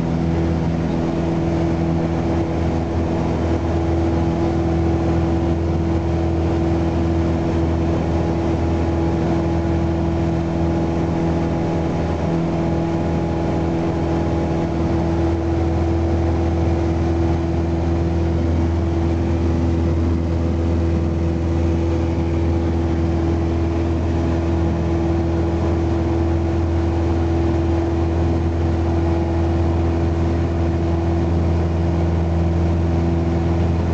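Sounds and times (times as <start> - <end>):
aircraft engine droning: 0.0 - 33.9.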